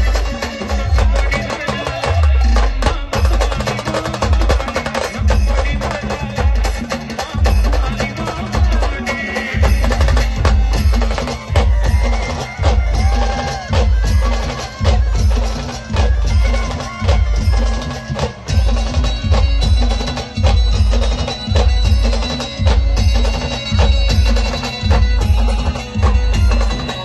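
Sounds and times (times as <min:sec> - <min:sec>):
bass drum beating: 0:00.0 - 0:27.0.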